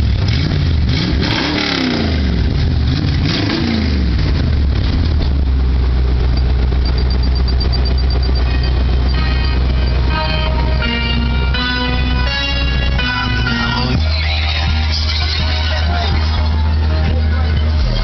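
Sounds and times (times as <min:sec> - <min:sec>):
engine idling: 0:00.0 - 0:18.0
engine revving: 0:00.0 - 0:18.0.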